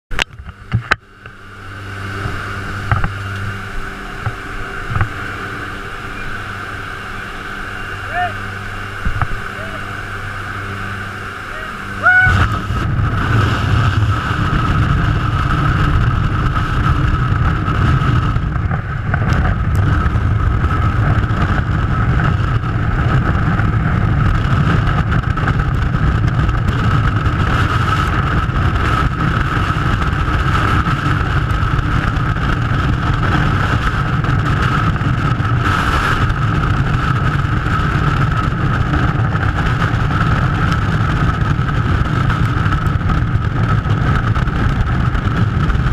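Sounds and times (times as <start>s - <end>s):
wind rumbling over camera: 0.1s - 45.9s.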